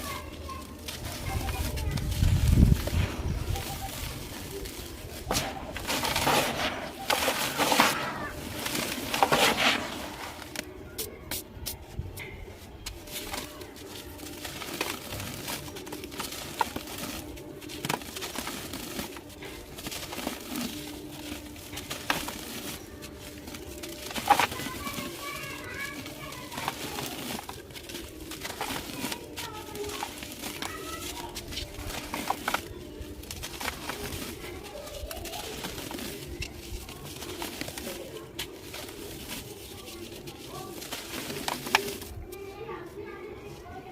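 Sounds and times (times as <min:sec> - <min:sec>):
dry material crunching by hand: 0:00.0 - 0:43.6.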